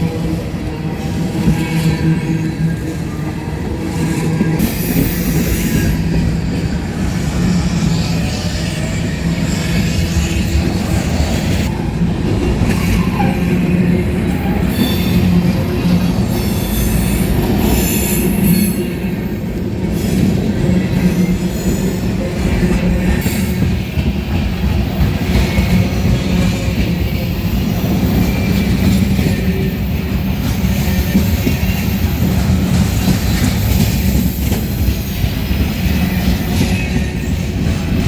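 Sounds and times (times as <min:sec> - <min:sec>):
freight train rumbling over rails: 0:00.0 - 0:38.0
train wheels squealing: 0:00.1 - 0:11.7, 0:12.7 - 0:38.0.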